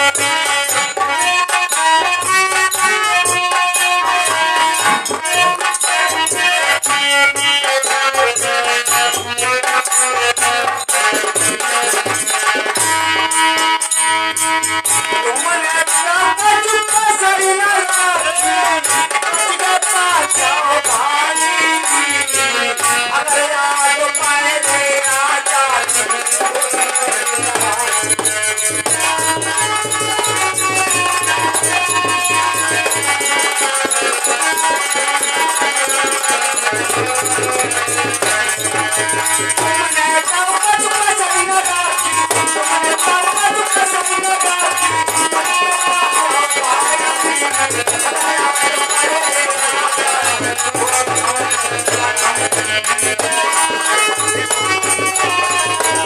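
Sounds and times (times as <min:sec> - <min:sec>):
jingling rattling percussion: 0:00.0 - 0:56.0.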